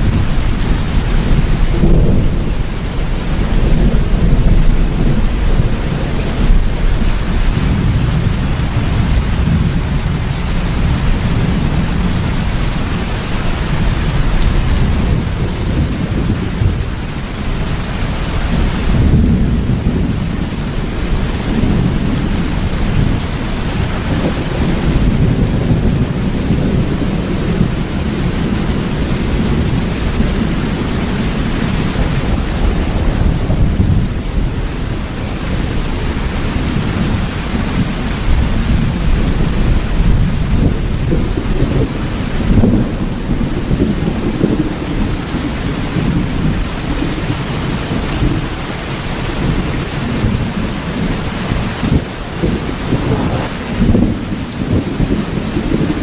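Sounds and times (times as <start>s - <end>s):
low rumble of thunder: 0.0s - 56.0s
steady rain: 0.0s - 56.0s.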